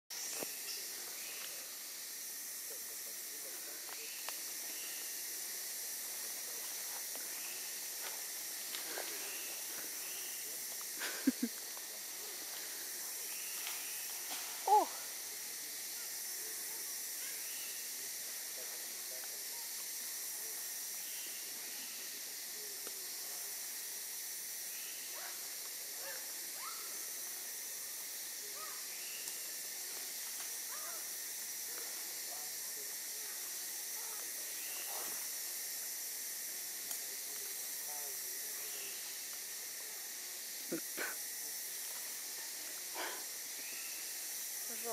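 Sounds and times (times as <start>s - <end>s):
steady high hiss: 0.1s - 44.9s.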